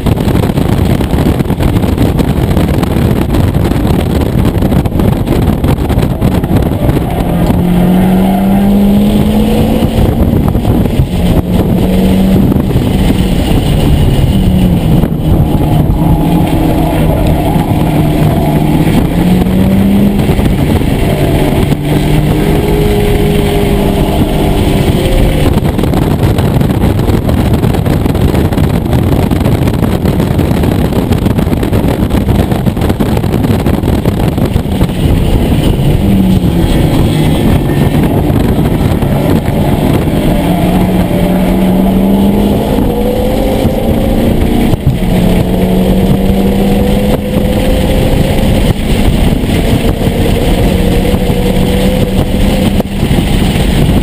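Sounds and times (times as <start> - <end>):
car engine revving: 0.0 - 54.0
road noise: 0.0 - 54.0.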